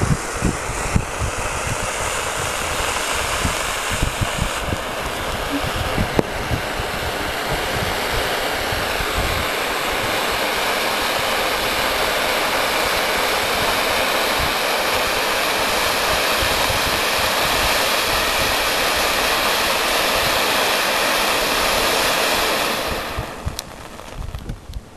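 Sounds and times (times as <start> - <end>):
fountain firework hissing: 0.0 - 24.9.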